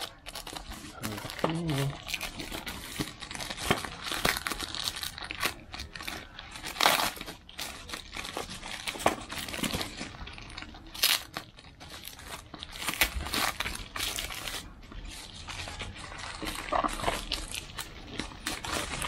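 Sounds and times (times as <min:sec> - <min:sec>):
bubble wrap and tape crinkling: 0:00.0 - 0:19.0.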